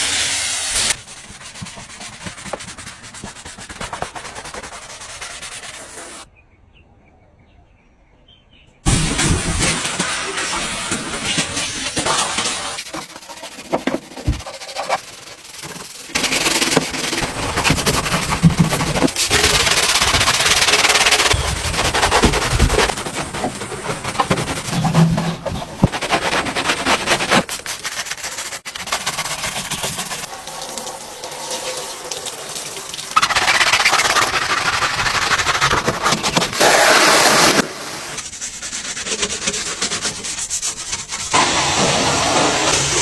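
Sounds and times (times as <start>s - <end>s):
rubbing and scrubbing car: 0.0s - 6.3s, 8.9s - 31.1s, 32.4s - 43.0s.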